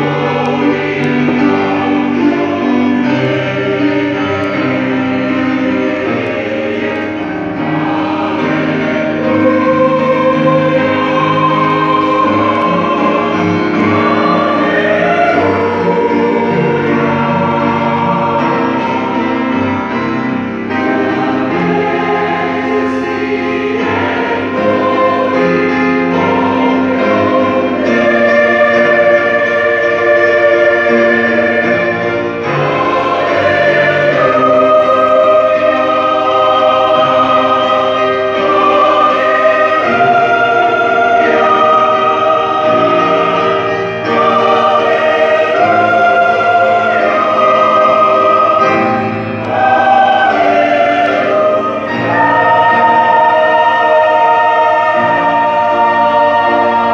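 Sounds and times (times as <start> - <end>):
choir singing a hymn: 0.0 - 56.9.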